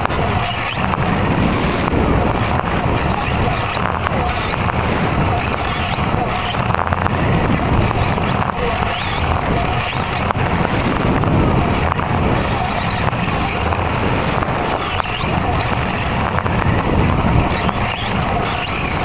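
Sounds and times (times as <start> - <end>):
rc car motors whining: 0.0 - 19.0
steady low rumble: 0.0 - 19.0.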